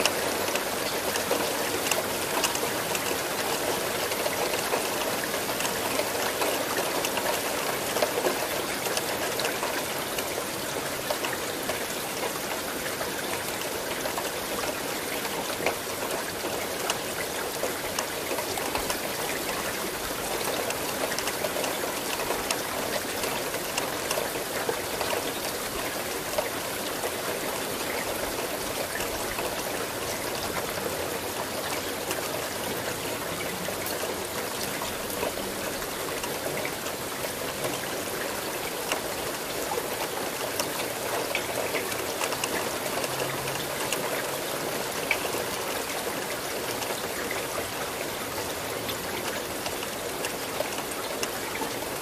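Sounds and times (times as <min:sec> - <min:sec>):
steady rain hiss: 0:00.0 - 0:52.0
water trickling: 0:00.0 - 0:52.0.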